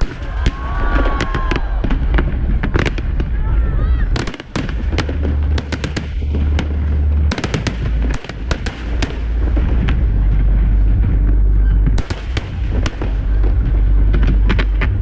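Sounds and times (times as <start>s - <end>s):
deep rumble: 0.0s - 15.0s
fireworks bangs and crackles: 0.0s - 15.0s.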